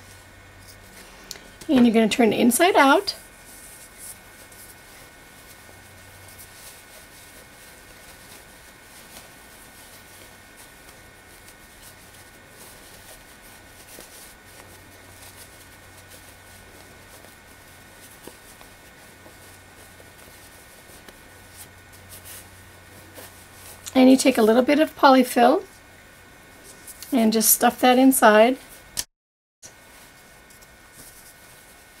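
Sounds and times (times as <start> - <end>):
fabric rustling: 0.0 - 29.0, 29.8 - 32.0.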